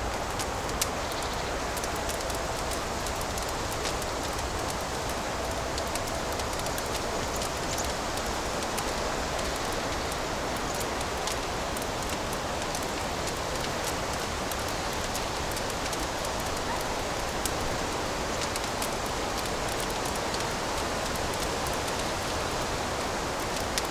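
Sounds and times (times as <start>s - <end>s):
fire crackling and hissing: 0.0s - 23.9s.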